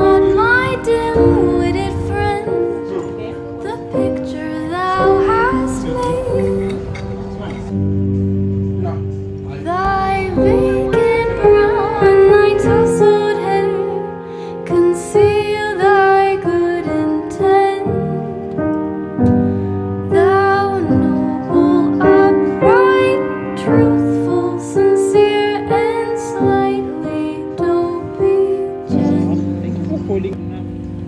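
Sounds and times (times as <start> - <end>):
woman singing: 0.0 - 7.2, 9.6 - 18.5, 20.0 - 29.7
piano accompaniment: 0.0 - 31.0.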